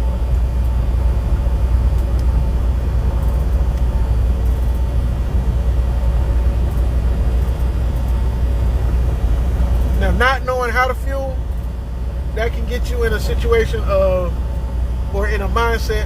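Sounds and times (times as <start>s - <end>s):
faint steady hum: 0.0s - 16.0s
truck engine drone: 0.0s - 16.0s.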